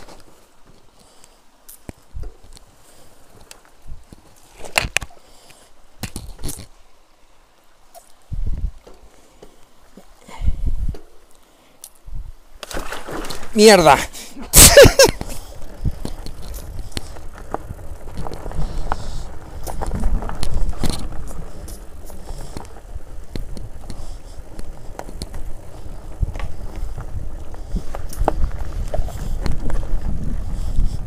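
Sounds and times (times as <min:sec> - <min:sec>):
tyres rumbling on dirt trail: 0:00.0 - 0:31.0.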